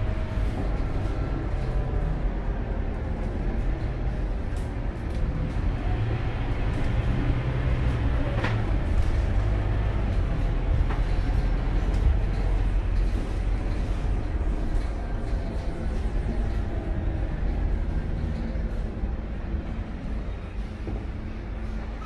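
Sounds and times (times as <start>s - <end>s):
bus diesel engine rumble: 0.0s - 22.0s
road noise: 0.0s - 22.0s.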